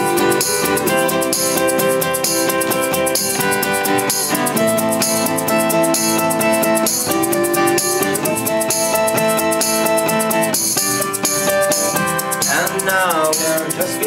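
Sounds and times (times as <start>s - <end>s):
acoustic guitar playing chords: 0.0s - 14.0s
tambourine shaken in rhythm: 0.0s - 14.0s.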